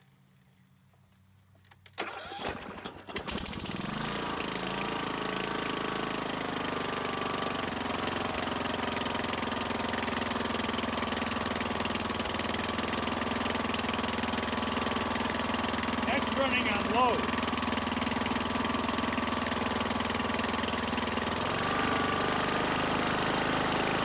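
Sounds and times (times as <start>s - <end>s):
small engine cranking and running: 1.8s - 24.0s.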